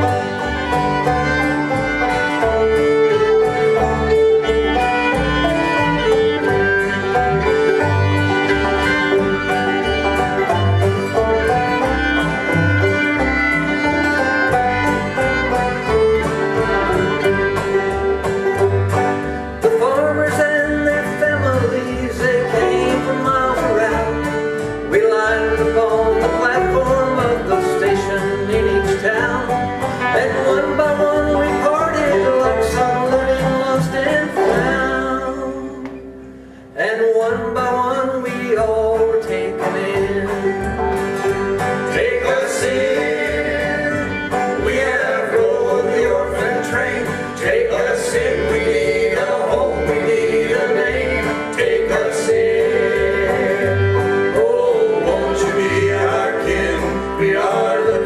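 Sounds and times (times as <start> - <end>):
sliding bending melody line: 0.0 - 35.8, 38.5 - 58.0
banjo: 0.0 - 58.0
fiddle: 0.0 - 58.0
guitar: 0.0 - 58.0
low bass notes: 0.0 - 58.0.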